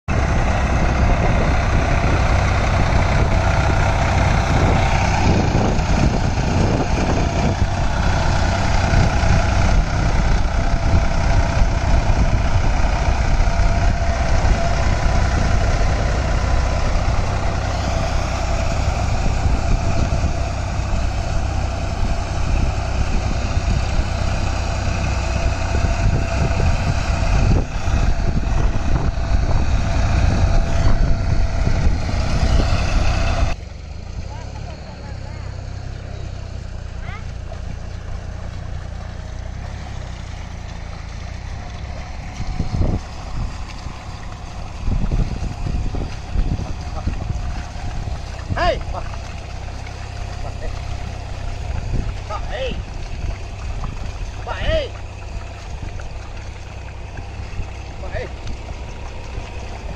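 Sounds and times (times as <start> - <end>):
tractor diesel engine running: 0.0 - 59.9
tiller churning mud and water: 0.1 - 59.9.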